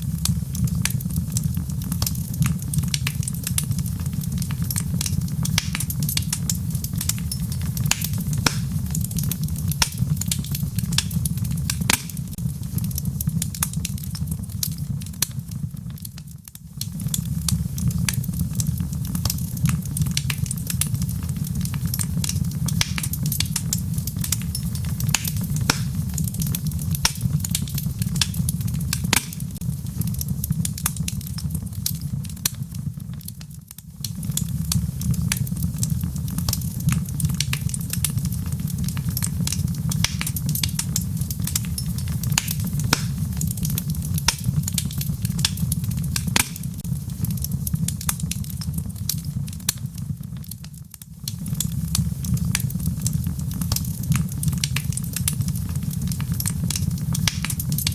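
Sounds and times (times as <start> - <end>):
burning wood crackling and popping: 0.0 - 57.9
low rumble of flames: 0.0 - 57.9.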